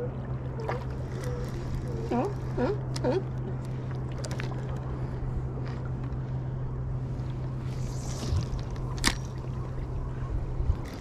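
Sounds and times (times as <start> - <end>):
low hum: 0.0 - 11.0
water noise: 0.0 - 11.0
wind: 0.0 - 11.0.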